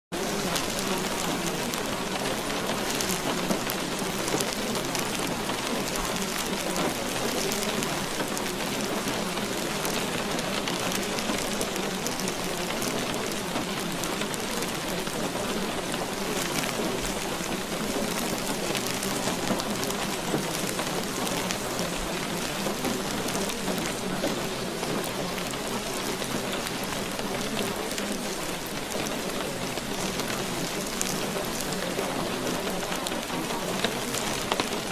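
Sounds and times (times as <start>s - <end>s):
steady rain: 0.1s - 34.9s.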